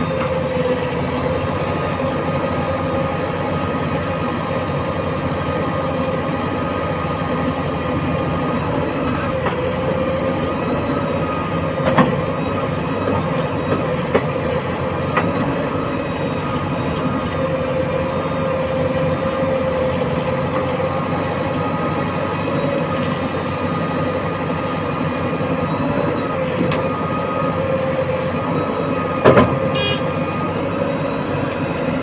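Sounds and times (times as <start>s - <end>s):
heavy diesel machinery running: 0.0s - 32.0s
whining tone: 0.0s - 32.0s.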